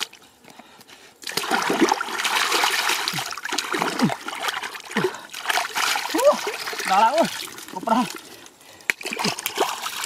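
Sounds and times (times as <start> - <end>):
muddy water splashing: 1.2 - 10.0.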